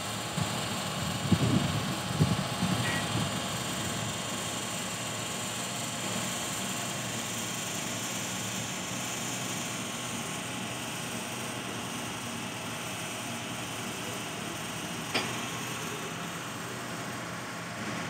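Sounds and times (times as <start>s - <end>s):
industrial machinery drone: 0.0s - 18.0s.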